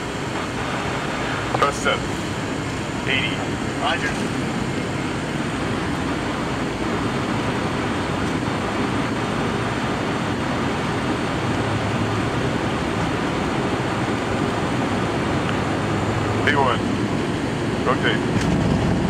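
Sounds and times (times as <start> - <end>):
airliner accelerating on takeoff: 0.0 - 19.0.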